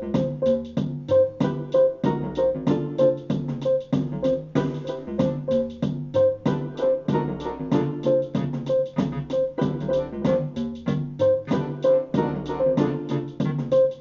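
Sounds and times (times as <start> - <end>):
fast keyboard notes: 0.0 - 14.0
programmed beats: 0.0 - 14.0.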